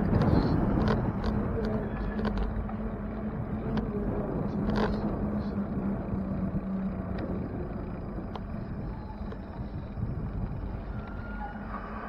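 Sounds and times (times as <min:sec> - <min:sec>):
bicycle clicks and rattles: 0:00.0 - 0:12.0
road and wind rumble: 0:00.0 - 0:12.0
steady hum: 0:00.0 - 0:12.0.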